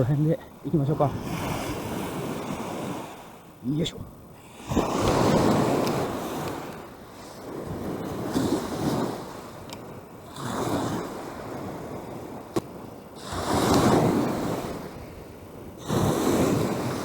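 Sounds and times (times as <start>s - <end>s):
lake waves washing onto shore: 0.0s - 17.0s
wind buffeting microphone: 0.0s - 17.0s.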